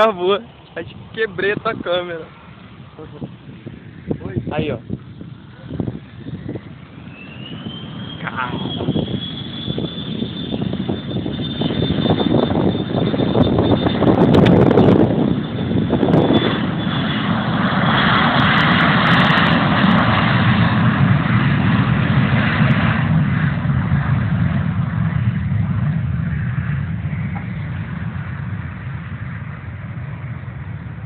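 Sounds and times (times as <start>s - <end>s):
jet engines at takeoff: 0.0s - 31.0s
low propeller engine idling: 0.0s - 31.0s.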